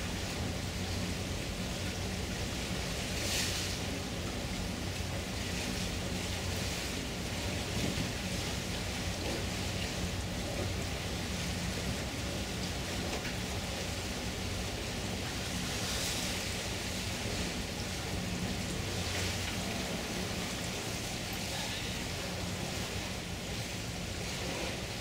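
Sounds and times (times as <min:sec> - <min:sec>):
low engine hum: 0:00.0 - 0:25.0
river water rushing: 0:00.0 - 0:25.0.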